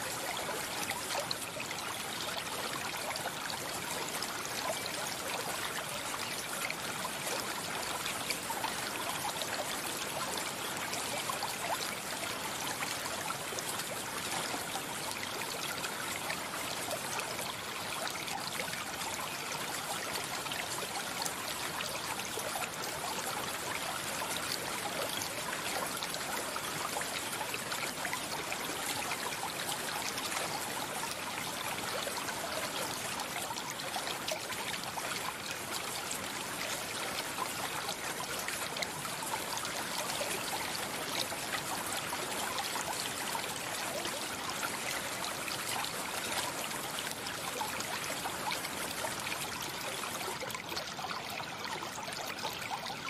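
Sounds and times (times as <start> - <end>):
stream of water flowing: 0.0 - 53.0.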